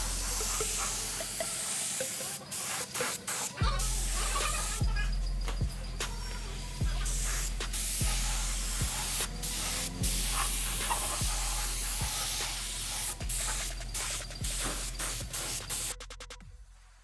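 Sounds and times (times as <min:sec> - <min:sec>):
music with kick-drum beat: 0:00.0 - 0:02.1, 0:03.4 - 0:17.0
loud steady hiss: 0:00.0 - 0:16.0.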